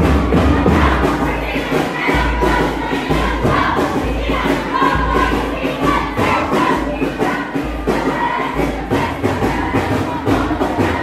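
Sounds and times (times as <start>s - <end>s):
squad chanting and singing: 0.0s - 11.0s.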